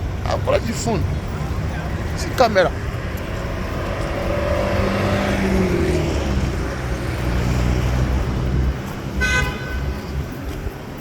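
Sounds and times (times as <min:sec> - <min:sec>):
passing vehicle engine hum: 0:00.0 - 0:10.9
low rumble of traffic: 0:00.0 - 0:11.0.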